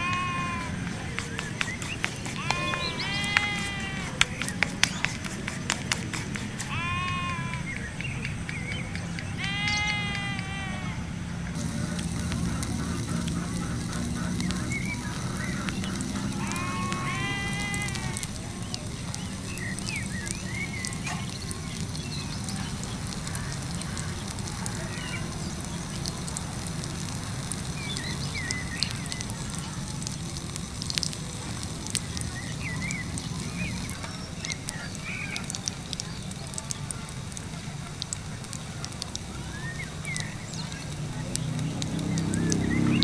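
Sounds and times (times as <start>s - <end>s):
batter frying in hot oil: 0.0s - 10.8s, 11.5s - 43.0s
sharp popping oil: 0.0s - 10.8s, 11.5s - 43.0s.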